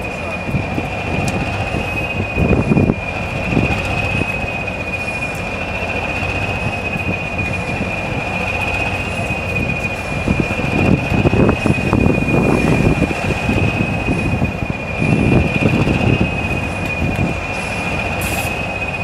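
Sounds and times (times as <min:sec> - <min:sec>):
locomotive high-pitched whine: 0:00.0 - 0:19.0
low locomotive rumble: 0:00.0 - 0:19.0.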